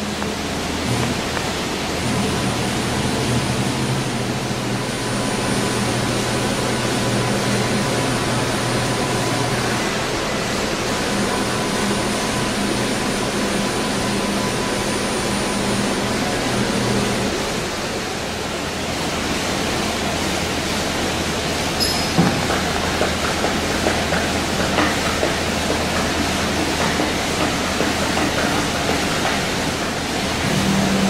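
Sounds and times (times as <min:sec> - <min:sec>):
router roaring with low hum: 0:00.0 - 0:31.0.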